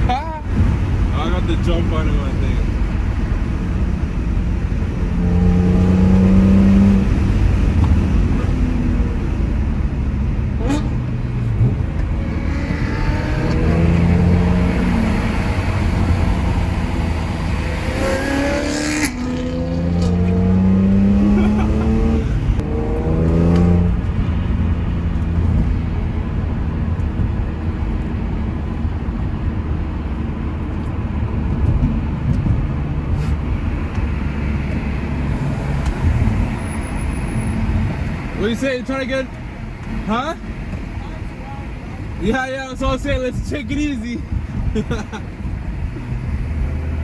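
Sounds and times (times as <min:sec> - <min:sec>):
car engine accelerating hard: 0:00.0 - 0:47.0.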